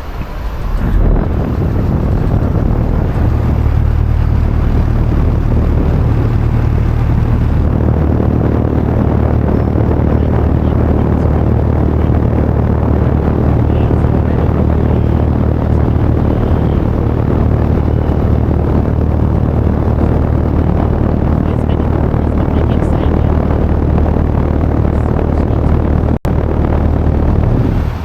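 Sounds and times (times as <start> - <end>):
air conditioner fan rushing: 0.0 - 28.0
air conditioner low hum: 0.0 - 28.0.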